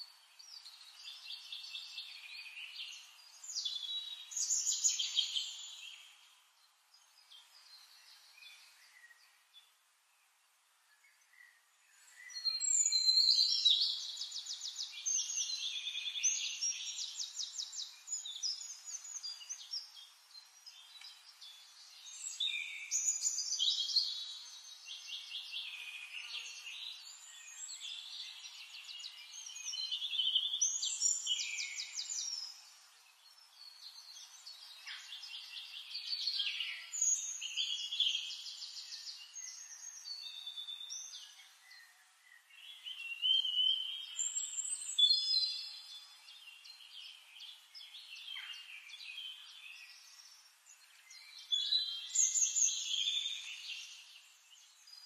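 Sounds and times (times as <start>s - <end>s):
soft bird chirps: 0.0s - 55.0s
songbirds singing: 0.0s - 55.0s.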